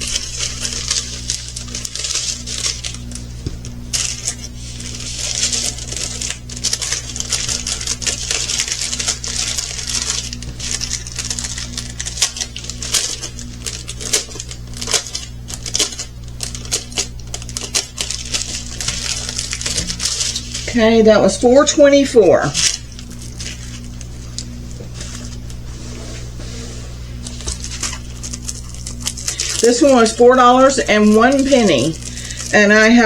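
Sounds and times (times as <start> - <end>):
plastic bags rattling and crinkling: 0.0 - 33.0.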